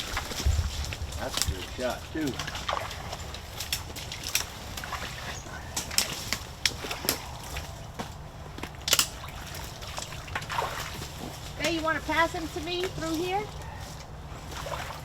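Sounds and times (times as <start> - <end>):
wading through shallow water: 0.0 - 15.0.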